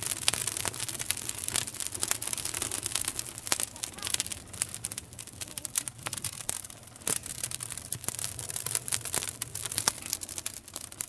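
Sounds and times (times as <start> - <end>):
wood campfire crackling and popping: 0.0 - 11.0.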